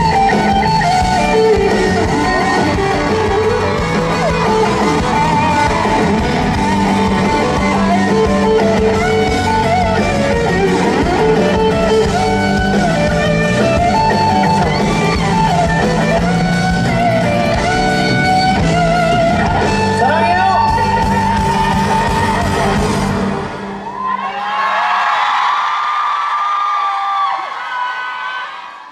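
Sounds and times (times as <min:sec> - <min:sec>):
steady bass: 0:00.0 - 0:23.6
wavering guitar melody: 0:00.0 - 0:23.8.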